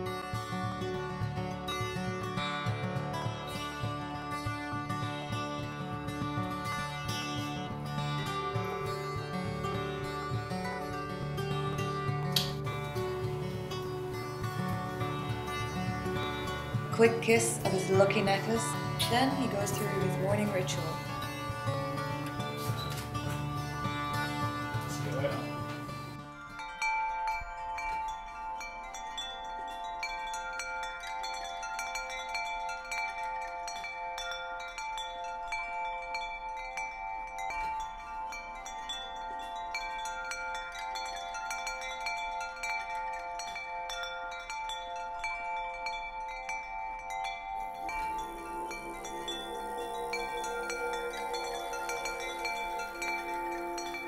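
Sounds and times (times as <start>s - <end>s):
long-ringing tones: 4.3s - 54.0s
wind chimes tinkling: 6.6s - 54.0s.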